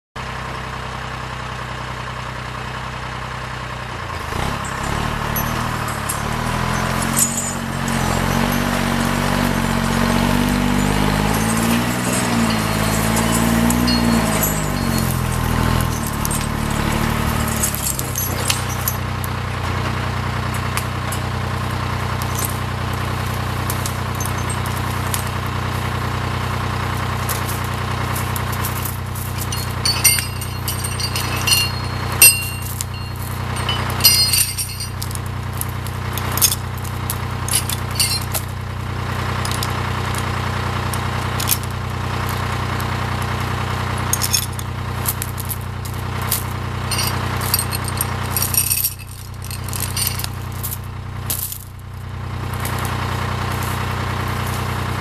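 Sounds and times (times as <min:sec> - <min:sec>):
diesel engine revving and idling: 0:00.2 - 0:55.0.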